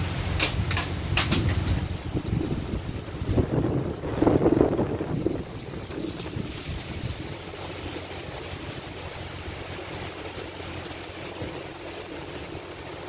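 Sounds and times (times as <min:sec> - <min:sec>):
wind buffeting microphone: 0:00.0 - 0:13.0
wind rushing through trees: 0:00.0 - 0:13.0.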